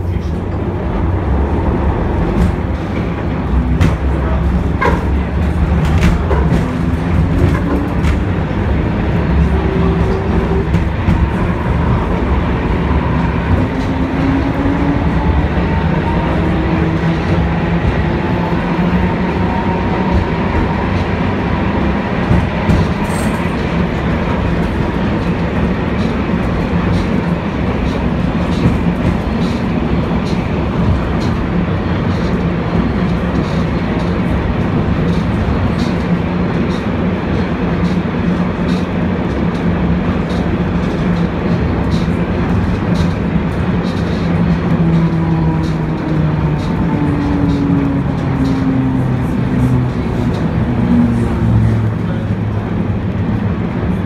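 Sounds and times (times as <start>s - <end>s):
tram wheels rumbling on rail: 0.0s - 54.0s.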